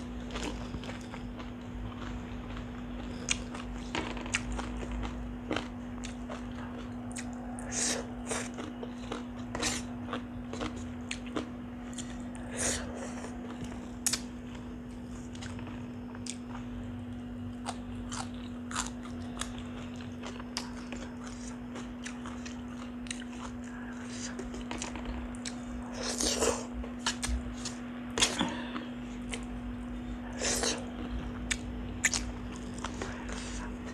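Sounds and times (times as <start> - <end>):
person chewing food: 0.0 - 33.9
steady low hum: 0.0 - 33.9.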